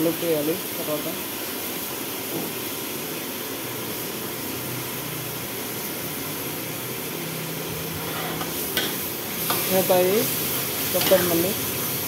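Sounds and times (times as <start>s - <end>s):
stove burner flame roaring: 0.0s - 12.0s.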